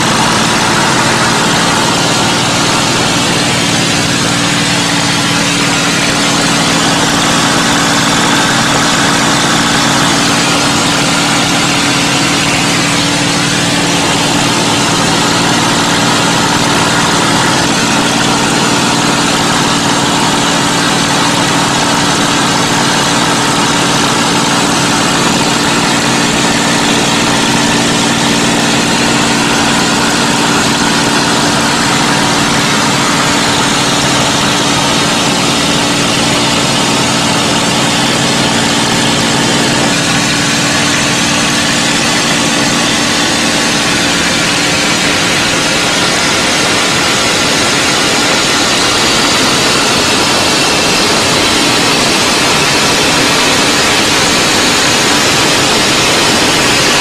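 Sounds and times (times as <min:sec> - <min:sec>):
propeller plane engine running: 0:00.0 - 0:57.0
rushing airflow: 0:00.0 - 0:57.0.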